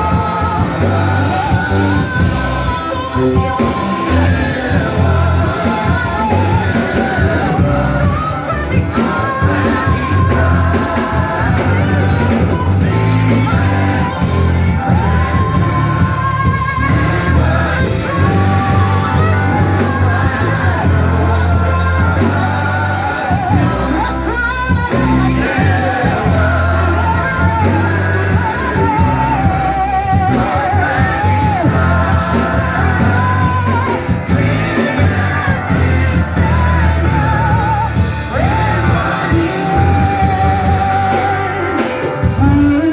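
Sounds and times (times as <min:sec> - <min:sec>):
band with steady bass line: 0:00.0 - 0:42.9
people singing with vibrato: 0:00.0 - 0:42.9.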